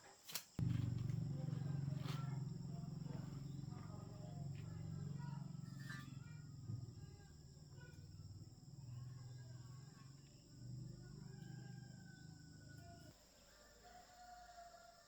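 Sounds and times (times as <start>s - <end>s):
faint low hum: 0.6s - 15.0s.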